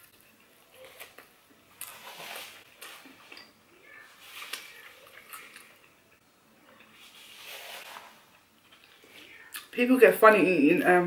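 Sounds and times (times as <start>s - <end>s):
person chewing food: 0.0s - 9.7s.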